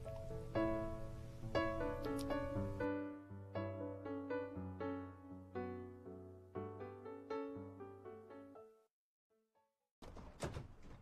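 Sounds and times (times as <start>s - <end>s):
slow piano chords: 0.0s - 8.9s.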